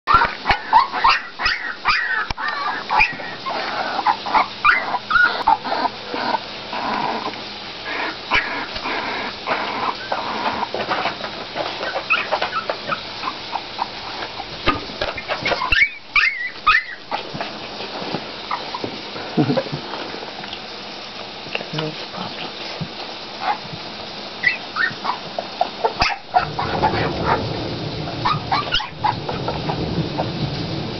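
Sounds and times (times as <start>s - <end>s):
puppies crying: 0.1s - 19.8s, 23.3s - 23.7s, 24.4s - 27.5s, 28.1s - 30.4s.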